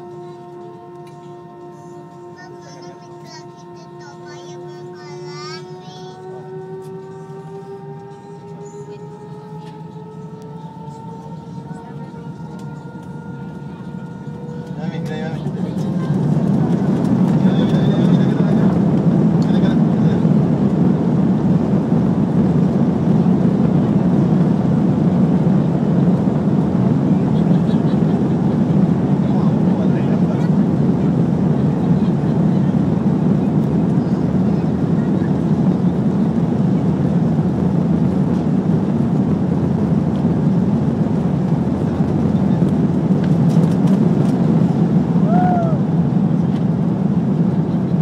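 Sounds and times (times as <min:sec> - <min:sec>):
airliner engines rumbling: 0:00.0 - 0:48.0.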